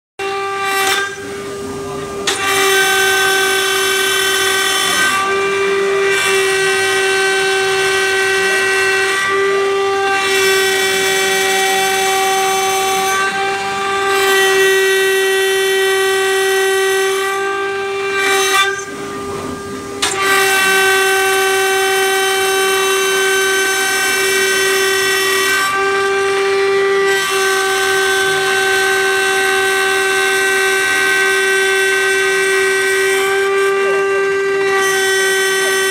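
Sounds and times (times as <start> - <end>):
harsh cutting noise: 0.2 - 35.9
router spindle whine: 0.2 - 35.9.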